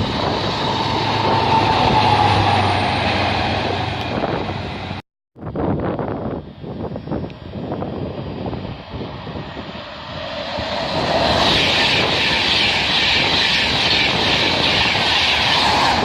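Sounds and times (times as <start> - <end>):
train passing at speed: 0.0 - 5.0, 5.8 - 16.0.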